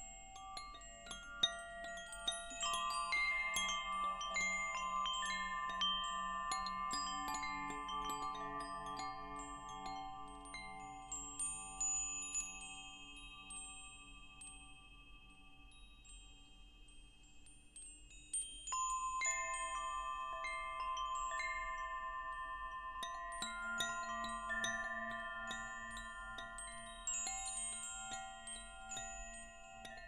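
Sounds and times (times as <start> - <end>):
wind chimes ringing: 0.0 - 30.0.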